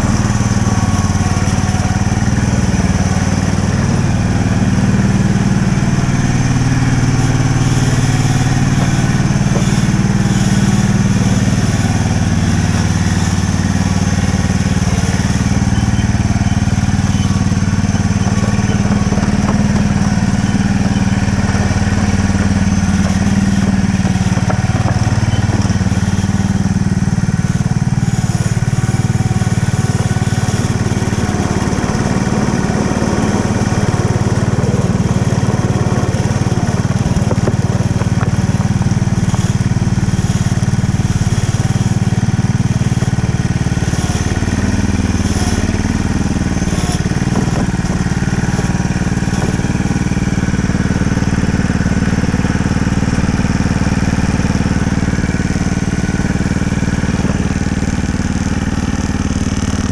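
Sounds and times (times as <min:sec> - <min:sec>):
small locomotive engine running: 0:00.0 - 0:59.9.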